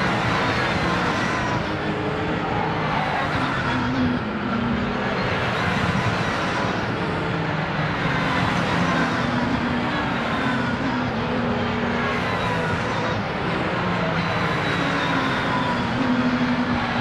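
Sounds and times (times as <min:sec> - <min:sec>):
race car engines at high revs: 0:00.0 - 0:17.0.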